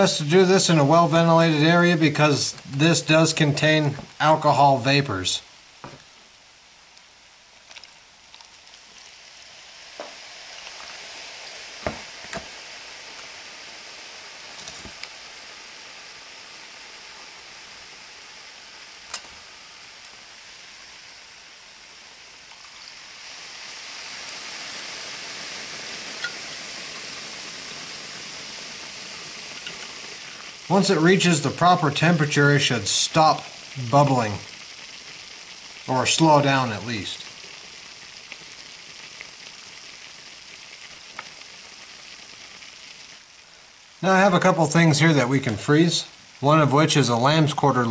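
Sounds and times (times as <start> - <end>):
dry ice bubbling and fizzing: 0.0 - 47.9.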